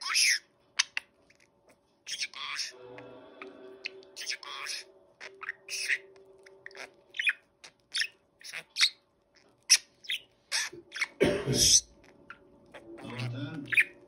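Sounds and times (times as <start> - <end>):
budgerigar chirping: 0.0 - 1.4, 2.1 - 2.8, 3.8 - 14.0.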